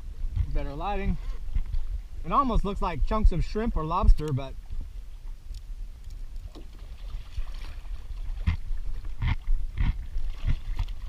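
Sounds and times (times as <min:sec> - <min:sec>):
low rumble of wind and water: 0:00.0 - 0:11.0.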